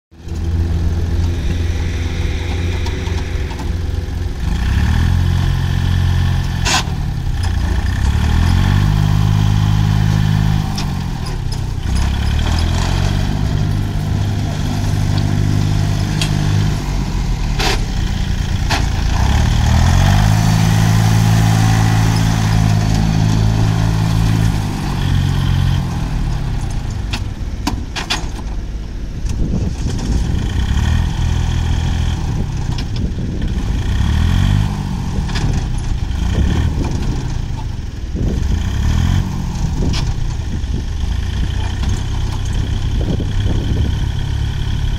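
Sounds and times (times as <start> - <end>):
tractor diesel engine revving: 0.1 - 44.9.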